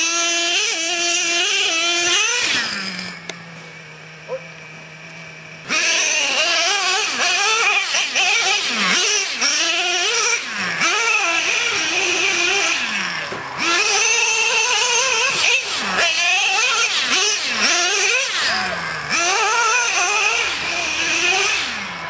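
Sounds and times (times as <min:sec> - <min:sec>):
nitro engine revving: 0:00.0 - 0:22.0.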